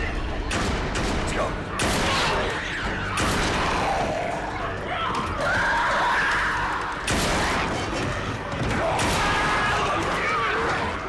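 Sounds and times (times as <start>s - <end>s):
dense noisy din: 0.0s - 11.0s.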